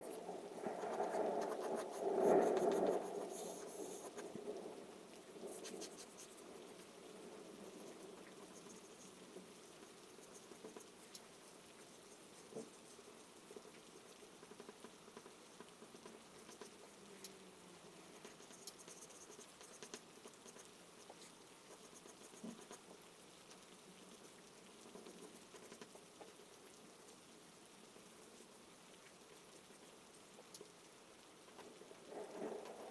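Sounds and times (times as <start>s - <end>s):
faint rain: 0.0s - 32.9s.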